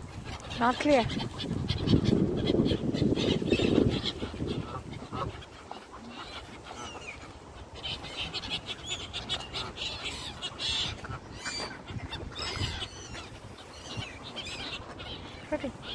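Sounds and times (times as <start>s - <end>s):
ducks quacking: 0.0s - 15.9s
gulls squawking: 0.0s - 15.9s.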